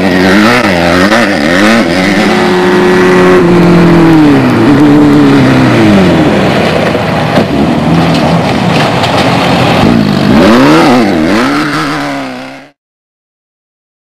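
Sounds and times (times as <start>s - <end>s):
race vehicle engine revving: 0.0s - 12.8s.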